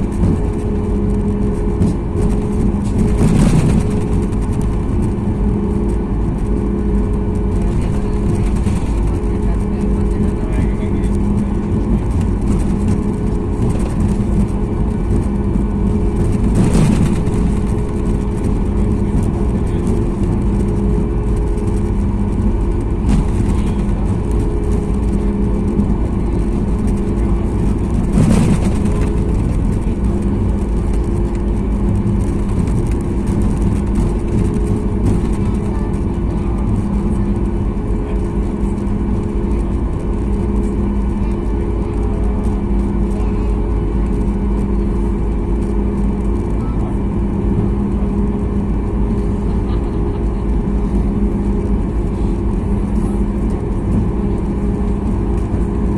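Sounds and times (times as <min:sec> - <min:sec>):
airplane cabin rumble and hum: 0:00.0 - 0:55.9.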